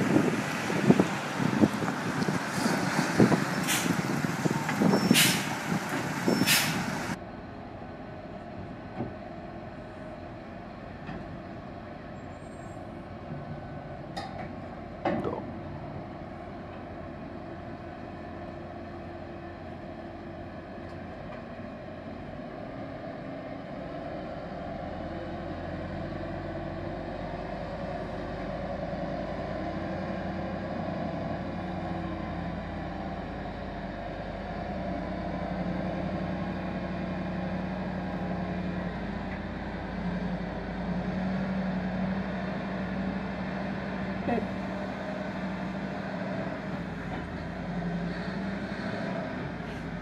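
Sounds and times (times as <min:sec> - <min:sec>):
truck engine running under load: 0:00.0 - 0:50.0.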